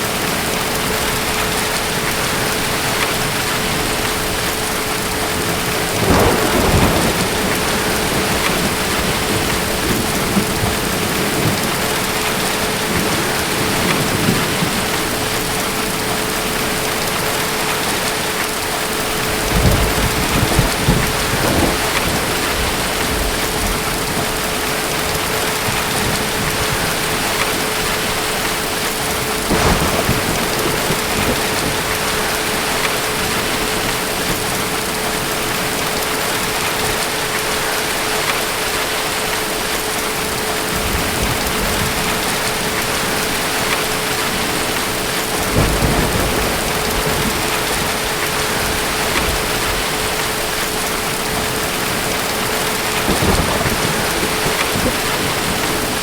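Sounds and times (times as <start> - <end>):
rain falling: 0.0 - 56.0
low thunder rumbles: 0.1 - 37.0, 39.5 - 56.0.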